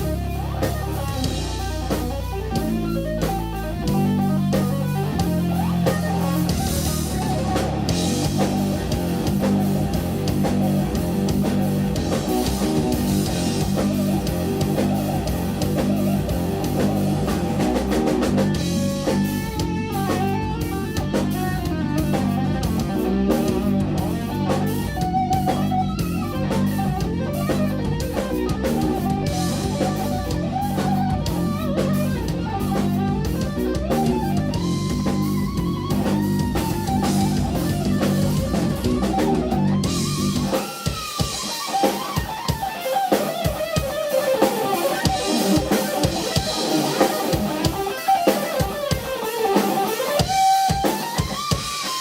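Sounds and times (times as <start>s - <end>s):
electric guitar: 0.0s - 52.0s
rock band playing: 0.0s - 52.0s.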